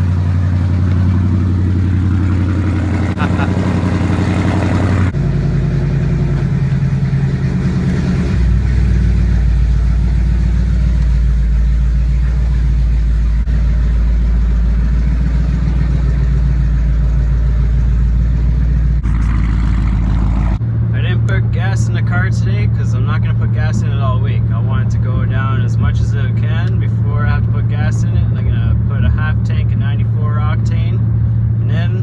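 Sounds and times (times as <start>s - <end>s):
car engine droning: 0.0s - 32.0s.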